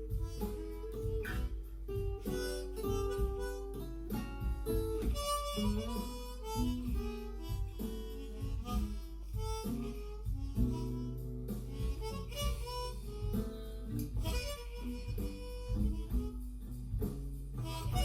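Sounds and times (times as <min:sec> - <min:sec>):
blues harmonica with bent notes: 0:00.0 - 0:18.0
plucked guitar accompaniment: 0:00.0 - 0:18.0.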